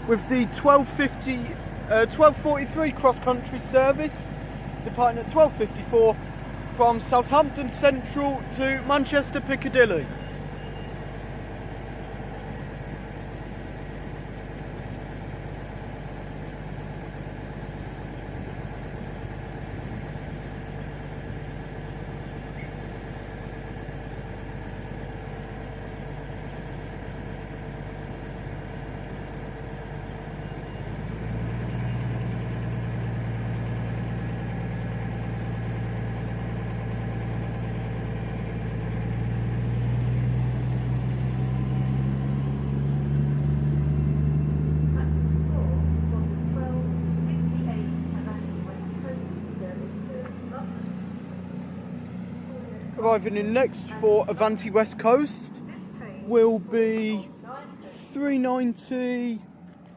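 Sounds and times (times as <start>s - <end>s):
train diesel engines idling: 0.0s - 59.9s.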